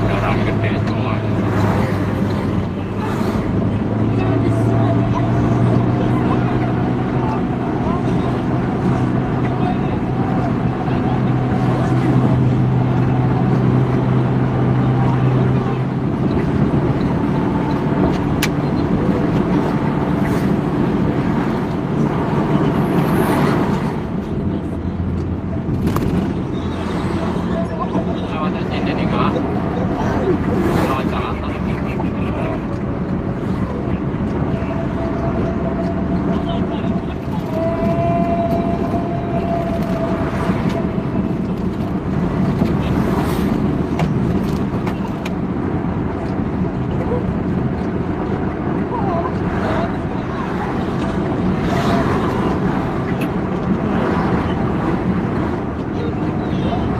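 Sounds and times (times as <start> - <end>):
heavy vehicle engine running: 0.0 - 56.9
road noise: 0.0 - 56.9.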